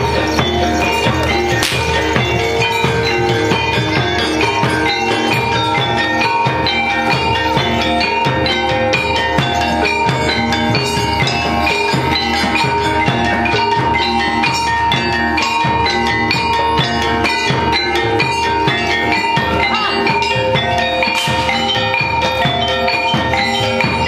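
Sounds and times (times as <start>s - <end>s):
drum strokes: 0.0s - 24.0s
metal gongs and metallophones: 0.0s - 24.0s.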